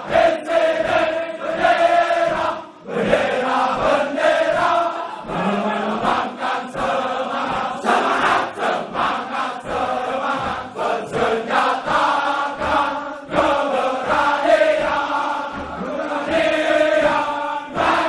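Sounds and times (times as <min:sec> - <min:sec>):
choir chanting: 0:00.0 - 0:18.0.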